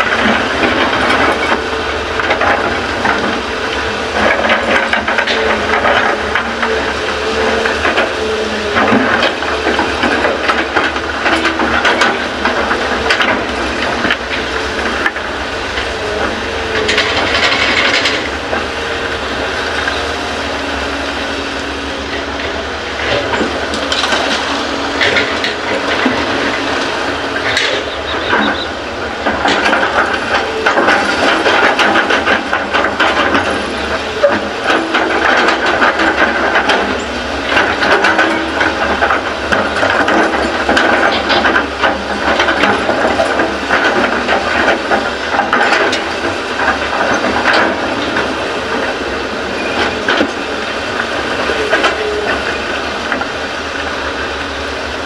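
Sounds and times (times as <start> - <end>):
knocks and rattles: 0.0 - 18.8, 22.2 - 53.4
excavator diesel engine running: 0.0 - 55.0.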